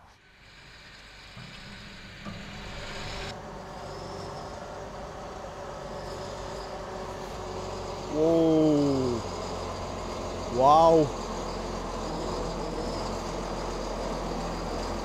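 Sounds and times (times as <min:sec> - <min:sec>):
tractor diesel engine running: 0:00.3 - 0:15.0.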